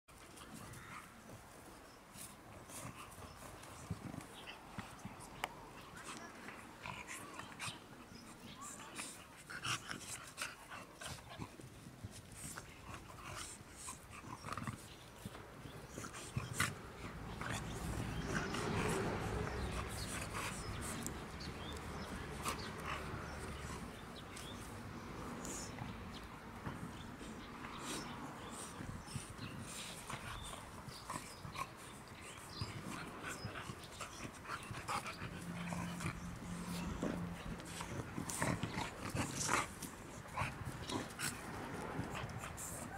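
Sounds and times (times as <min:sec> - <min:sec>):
dogs panting: 0:00.1 - 0:42.9.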